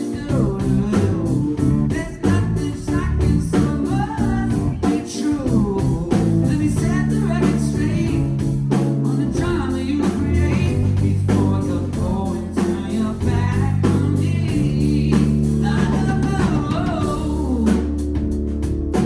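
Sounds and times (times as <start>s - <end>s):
person singing: 0.0s - 18.1s
live pop-rock band playing: 0.0s - 19.0s.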